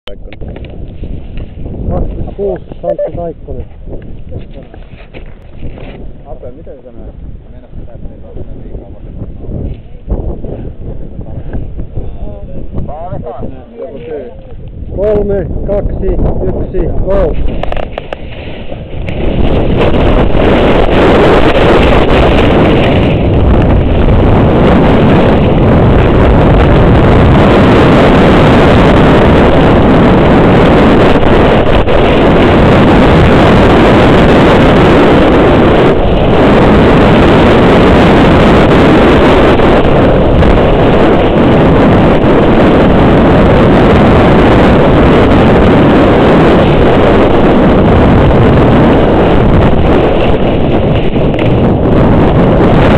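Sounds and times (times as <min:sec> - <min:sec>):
wind buffeting microphone: 0:00.1 - 0:52.9.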